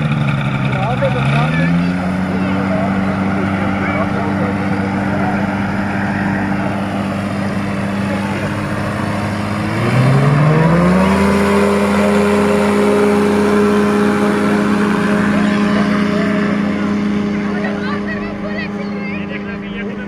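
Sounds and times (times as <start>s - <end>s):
propeller engine revving: 0.0s - 20.0s.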